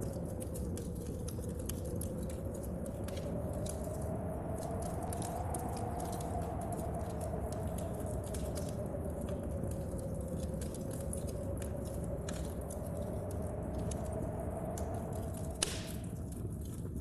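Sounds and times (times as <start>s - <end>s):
rain: 0.0s - 17.0s
storm wind: 0.0s - 17.0s
wood fire crackling in a stove: 0.0s - 17.0s.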